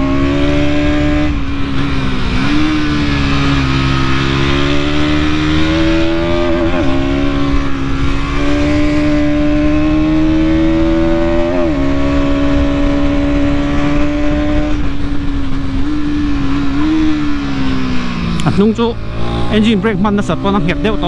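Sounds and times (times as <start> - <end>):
wind rush: 0.0 - 20.2.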